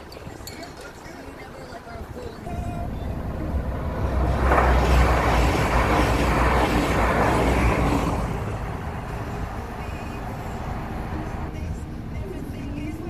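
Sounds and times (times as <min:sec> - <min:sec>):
passenger train passing: 0:02.0 - 0:13.0.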